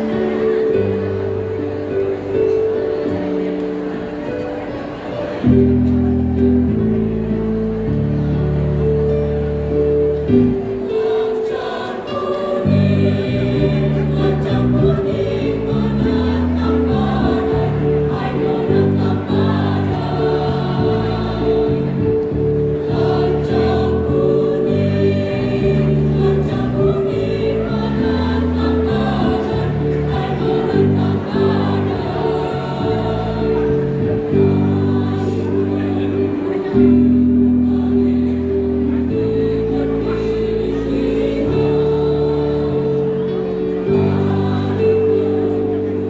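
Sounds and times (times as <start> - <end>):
choir singing in parts: 0.0 - 46.0.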